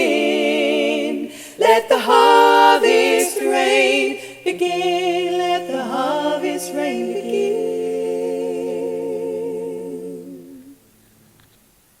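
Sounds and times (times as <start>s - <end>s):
a cappella voices singing chord: 0.0s - 11.0s.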